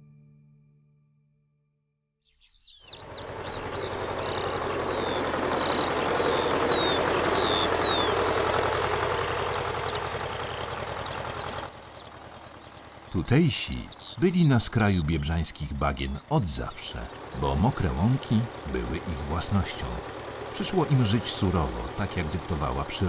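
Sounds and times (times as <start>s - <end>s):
small birds chirping: 2.2s - 23.0s
tractor engine rumbling: 2.9s - 23.0s.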